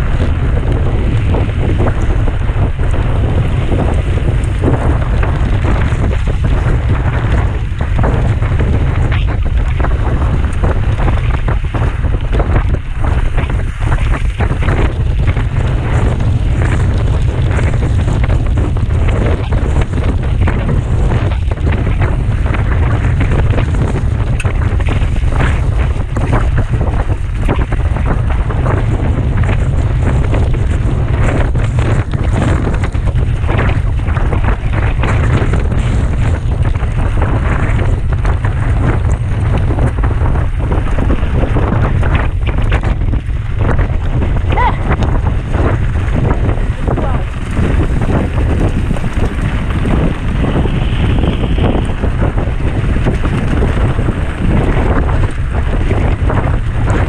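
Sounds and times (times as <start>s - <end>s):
bike rattling over rough trail: 0.0s - 57.0s
wind buffeting microphone: 0.0s - 57.0s.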